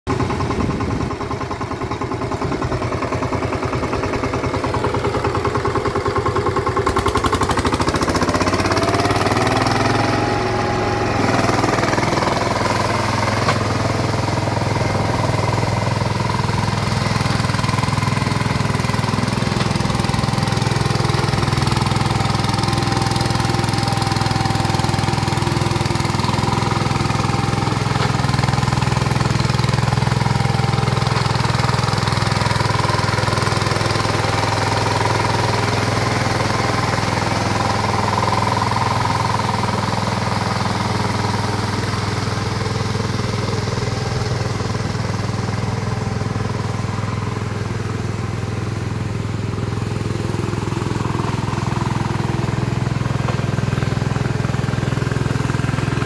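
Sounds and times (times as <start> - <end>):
power tiller engine running: 0.1 - 56.0.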